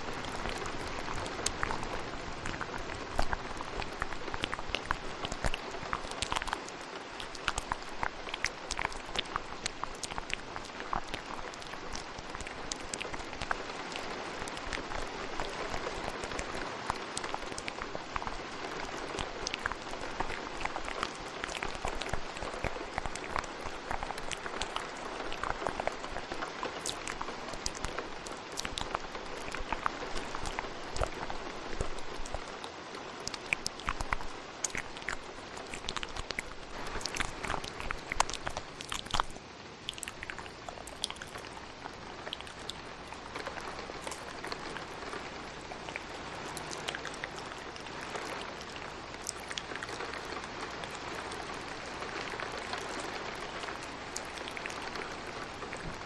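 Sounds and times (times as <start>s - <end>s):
steady rain: 0.0s - 56.0s
wet mouth sounds: 0.0s - 56.0s.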